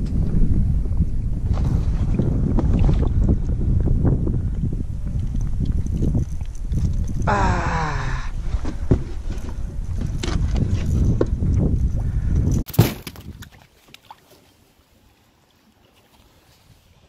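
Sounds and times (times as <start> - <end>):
wind rumbling on microphone: 0.0 - 13.7.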